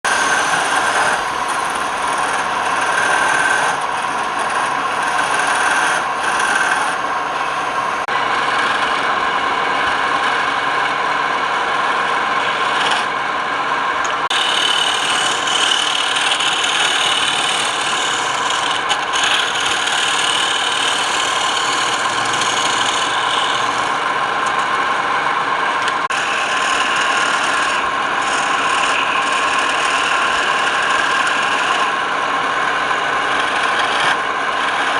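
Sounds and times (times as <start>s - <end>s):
tool scraping spinning wood: 0.0s - 34.9s
wood lathe running: 0.0s - 34.9s.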